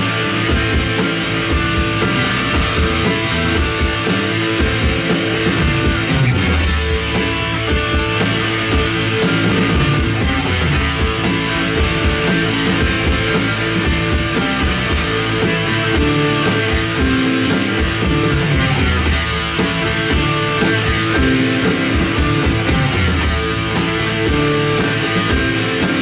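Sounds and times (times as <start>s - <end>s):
drum kit playing: 0.0s - 26.0s
electric bass guitar: 0.0s - 26.0s.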